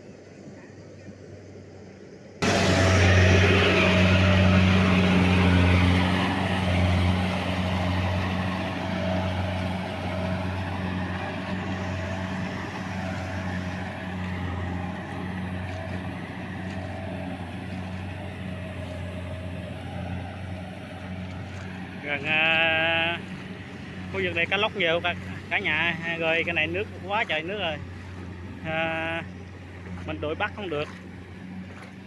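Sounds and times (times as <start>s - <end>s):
diesel engine humming: 0.0s - 32.0s.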